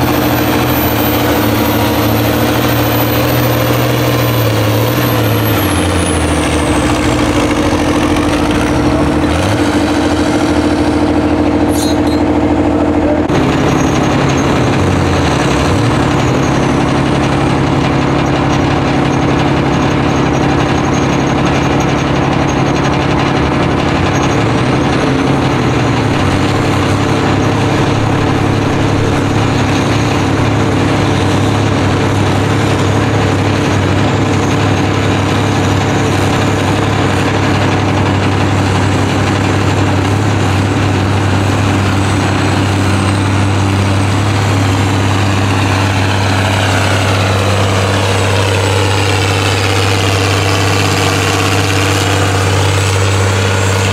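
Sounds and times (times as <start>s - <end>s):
tractor engine speed dipping: 0.0s - 53.9s
tractor engine under load: 0.0s - 53.9s.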